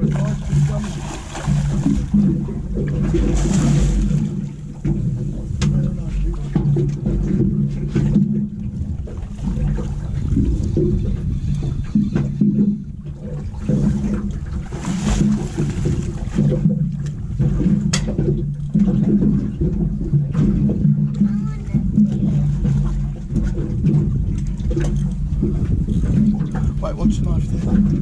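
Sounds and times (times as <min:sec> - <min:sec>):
low hum: 0:00.0 - 0:28.0
water noise: 0:00.0 - 0:28.0
wind: 0:00.0 - 0:28.0.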